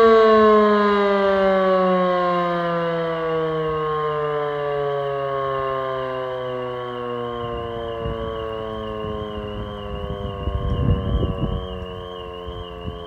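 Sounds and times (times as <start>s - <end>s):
siren winding down: 0.0s - 13.0s.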